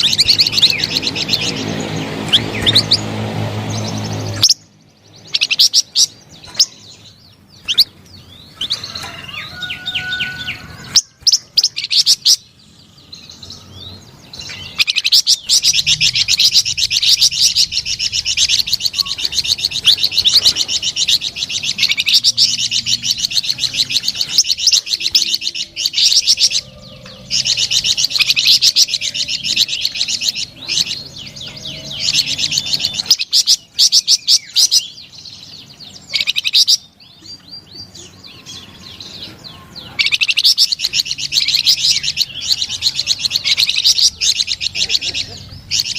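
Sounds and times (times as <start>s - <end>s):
songbird singing trills: 0.0s - 45.9s.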